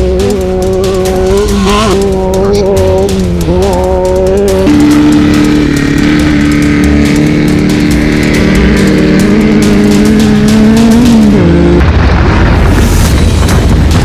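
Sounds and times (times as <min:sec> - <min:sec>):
music with steady beat: 0:00.0 - 0:12.0
buggy engine running hard: 0:00.0 - 0:14.0.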